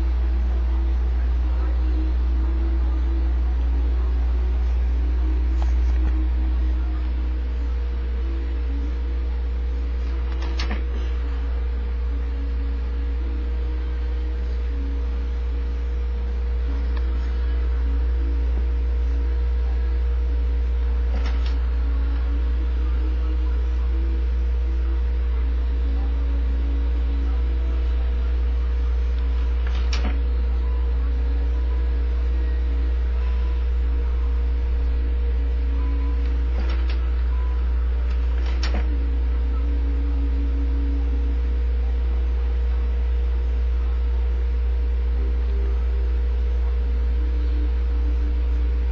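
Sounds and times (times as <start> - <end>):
computer electrical hum: 0.0 - 48.9
faint steady tone: 0.0 - 48.9.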